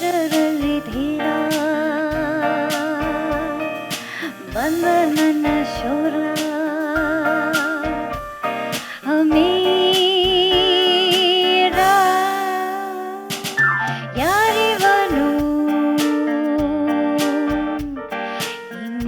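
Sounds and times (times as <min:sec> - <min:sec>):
percussion hits: 0:00.0 - 0:12.6, 0:13.3 - 0:19.0
jazz band playing: 0:00.0 - 0:19.0.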